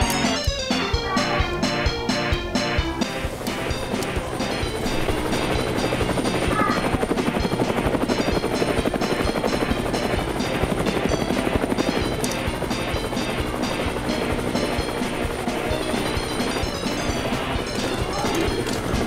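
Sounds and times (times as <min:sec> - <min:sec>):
helicopter rotor chopping: 0:00.0 - 0:19.0
upbeat background music: 0:00.0 - 0:19.0.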